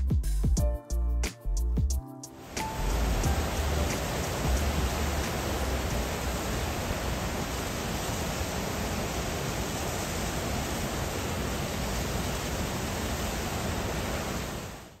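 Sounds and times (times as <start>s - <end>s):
water rushing from spillway: 2.4s - 15.0s.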